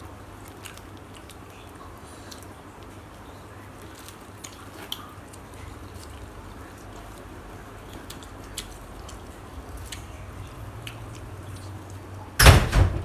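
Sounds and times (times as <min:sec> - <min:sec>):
chewing and eating: 0:00.0 - 0:12.4
low steady hum: 0:00.0 - 0:13.0.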